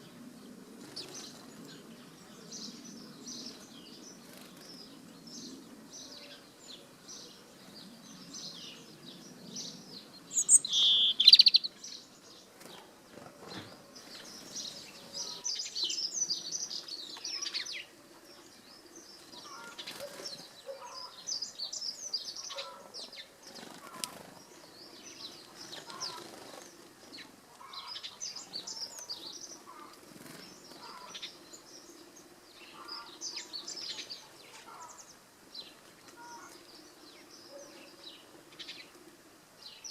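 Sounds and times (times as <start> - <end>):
robin singing: 0.9 - 12.5, 14.0 - 39.0.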